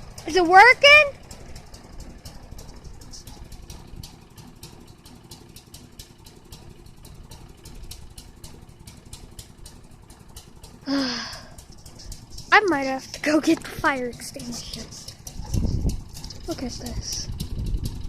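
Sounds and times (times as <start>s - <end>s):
lawn mower engine running: 0.0s - 18.0s
light ticking: 0.0s - 18.0s.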